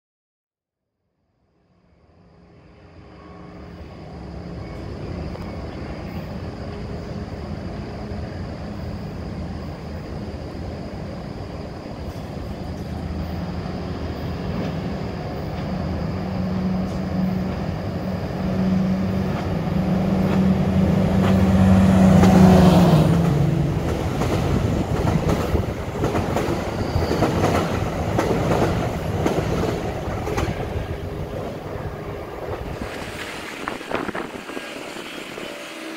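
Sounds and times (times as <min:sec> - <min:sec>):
train engine hum: 0:01.6 - 0:35.9.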